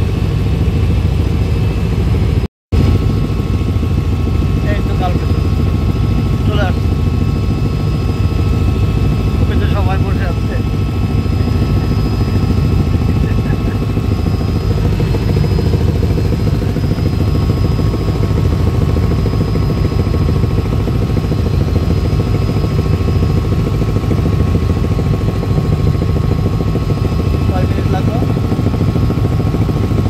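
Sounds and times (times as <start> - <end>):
helicopter engine and rotor drone: 0.0 - 30.0.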